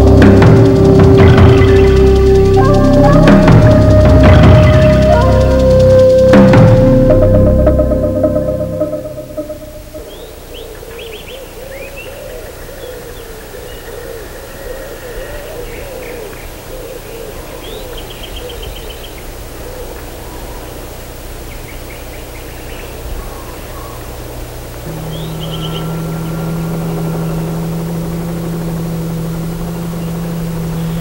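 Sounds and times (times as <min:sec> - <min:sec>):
birds chirping and trilling: 0:00.0 - 0:31.0
low warbling bird call: 0:00.0 - 0:31.0
steady low hum: 0:00.0 - 0:31.0.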